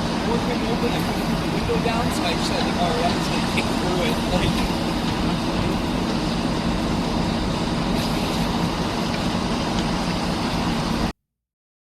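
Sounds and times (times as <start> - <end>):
street traffic noise: 0.0 - 11.1.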